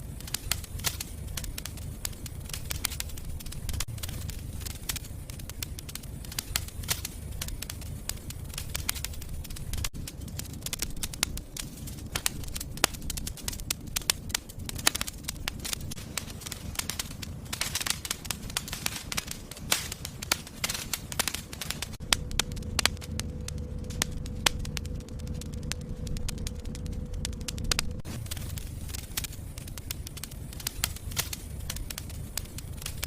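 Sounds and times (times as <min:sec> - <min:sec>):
faint steady whine: 0:00.0 - 0:33.0
low rumble of flames: 0:00.0 - 0:33.0
wood fire crackling and popping: 0:00.0 - 0:33.0.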